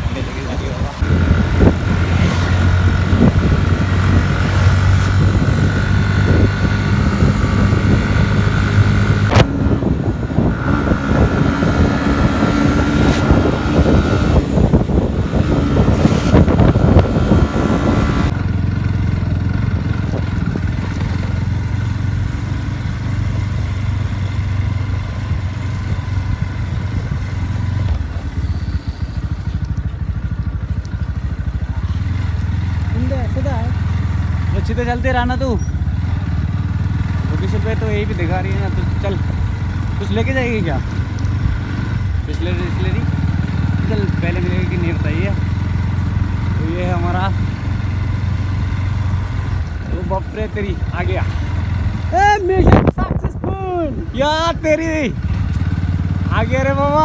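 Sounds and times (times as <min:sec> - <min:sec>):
motorcycle engine humming: 0:00.0 - 0:57.0.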